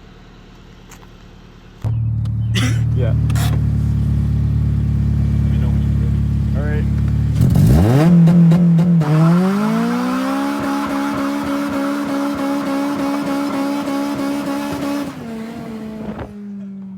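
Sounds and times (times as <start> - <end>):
car engine revving: 1.8 - 16.6.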